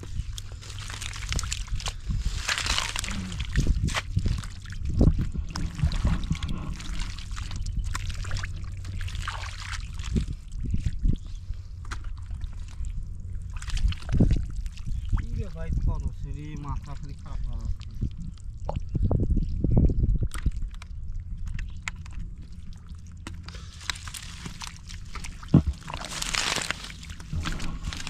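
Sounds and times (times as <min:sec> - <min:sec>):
small water splashes: 0:00.0 - 0:11.0, 0:11.9 - 0:15.6, 0:20.2 - 0:28.0
squelching in muddy water: 0:00.0 - 0:15.6, 0:16.8 - 0:28.0.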